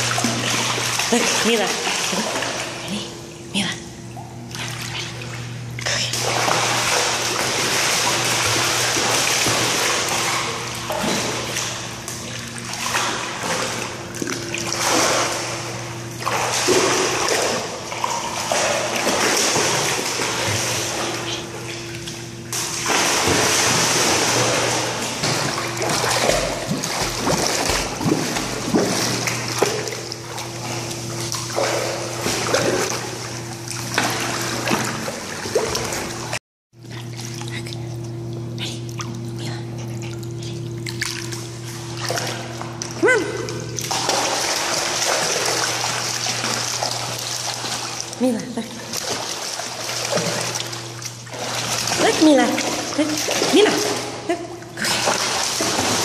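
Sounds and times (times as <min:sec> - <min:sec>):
dog splashing in water: 0:00.0 - 0:02.8, 0:04.5 - 0:21.8, 0:22.5 - 0:36.3, 0:40.8 - 0:56.0
steady low hum: 0:00.0 - 0:56.0.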